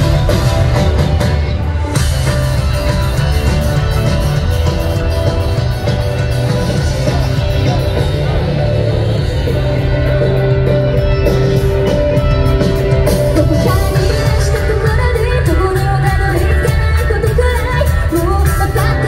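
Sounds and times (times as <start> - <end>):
bass guitar: 0.0 - 19.0
drums: 0.0 - 19.0
electric guitar: 0.0 - 19.0.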